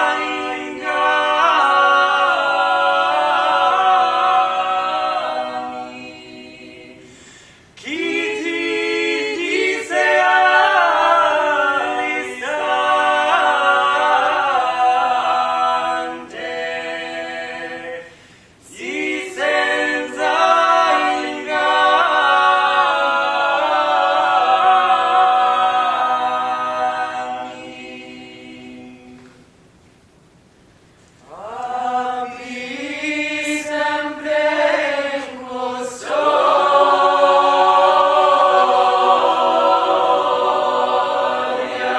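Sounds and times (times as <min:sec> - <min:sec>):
choir singing a cappella: 0:00.0 - 0:29.6, 0:31.2 - 0:41.9.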